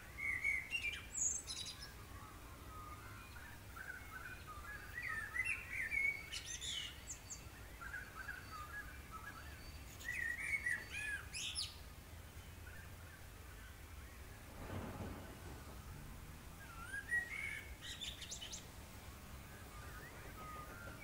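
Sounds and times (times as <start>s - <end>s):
small birds singing: 0.0s - 21.0s.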